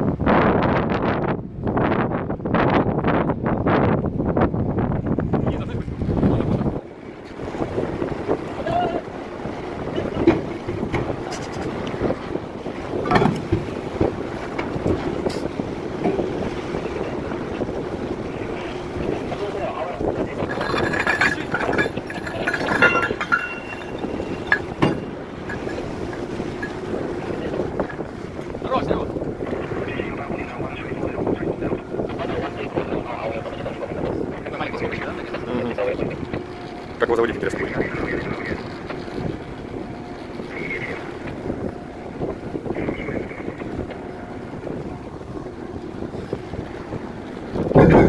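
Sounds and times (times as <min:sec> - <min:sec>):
wind buffeting microphone: 0:00.0 - 0:48.0
low machinery rumble: 0:04.6 - 0:48.0.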